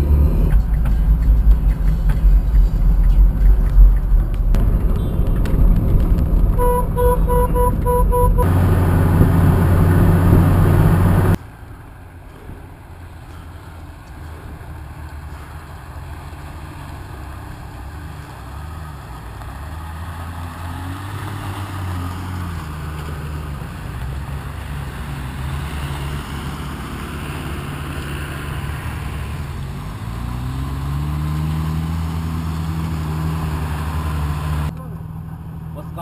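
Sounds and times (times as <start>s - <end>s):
off-road engines labouring: 0.0s - 36.0s.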